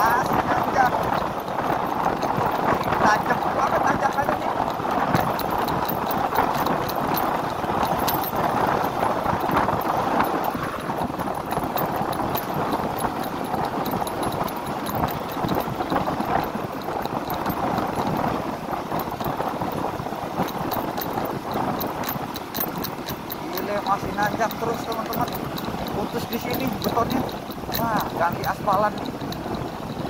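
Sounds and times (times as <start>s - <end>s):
wind and road noise: 0.0s - 30.0s
wind buffeting microphone: 0.0s - 30.0s.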